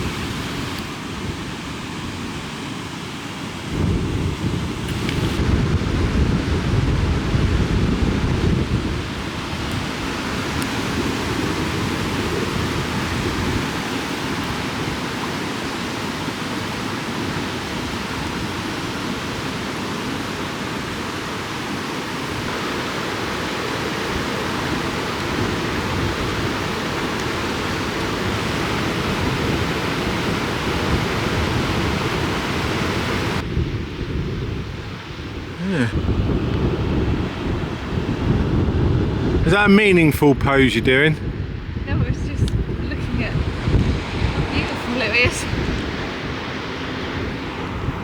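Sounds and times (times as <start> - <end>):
water rushing: 0.0 - 48.0.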